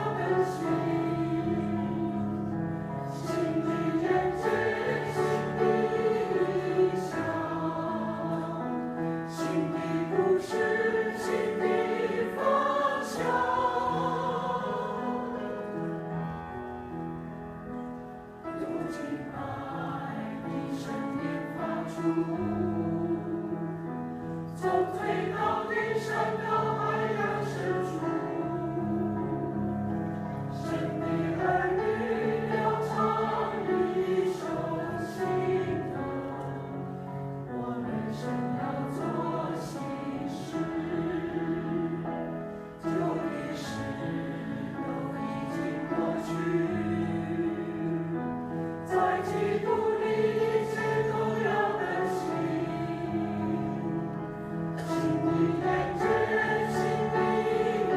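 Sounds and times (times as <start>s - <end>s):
choir singing a hymn: 0.0s - 57.9s.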